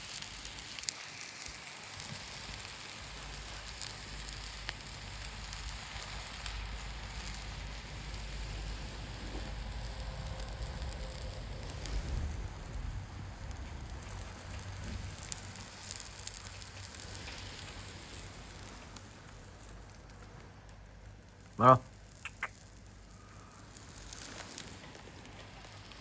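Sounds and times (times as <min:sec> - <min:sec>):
campfire hissing: 0:00.0 - 0:26.0
fire crackles: 0:00.0 - 0:26.0.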